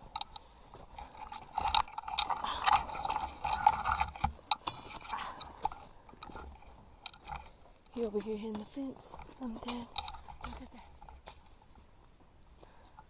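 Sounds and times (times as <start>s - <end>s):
footsteps crunching on rocks: 0.0s - 13.0s
twigs and leaves scraping: 0.0s - 13.0s.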